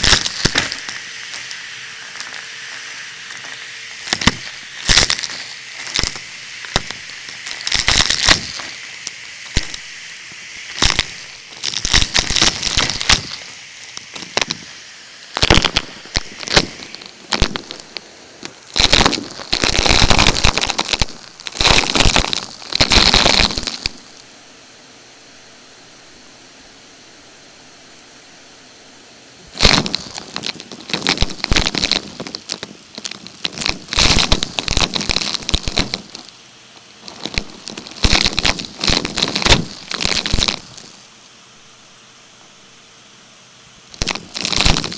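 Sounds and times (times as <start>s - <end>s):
debris rattling in vacuum: 0.0s - 24.2s, 29.5s - 41.0s, 43.9s - 44.9s.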